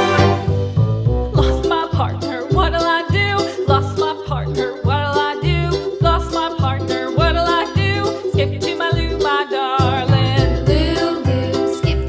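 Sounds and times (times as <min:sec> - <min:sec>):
bouncy bass line: 0:00.0 - 0:12.0
plucked string melody: 0:00.0 - 0:12.0.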